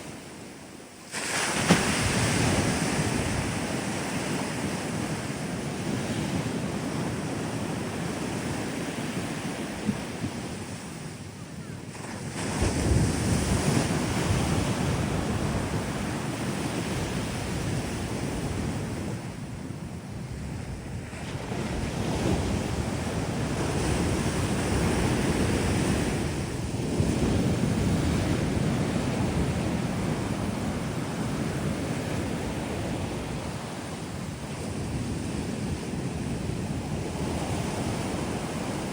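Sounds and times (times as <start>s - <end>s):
surf breaking on beach: 1.0s - 38.9s
wind buffeting microphone: 1.4s - 38.9s.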